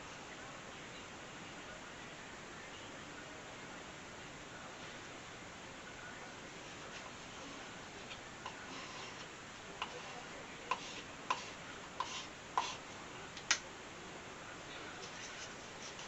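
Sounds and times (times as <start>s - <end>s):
faint room noise: 0.0s - 16.0s.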